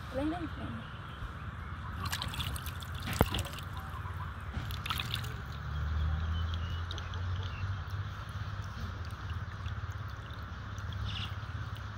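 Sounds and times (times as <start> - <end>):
small water splashes: 1.9 - 11.9
water trickling into a basin: 1.9 - 11.9.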